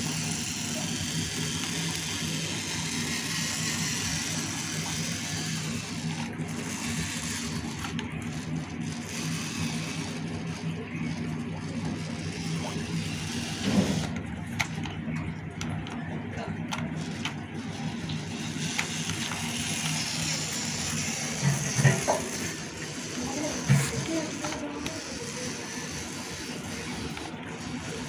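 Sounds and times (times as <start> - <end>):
small motor and gearbox humming: 0.0 - 28.0.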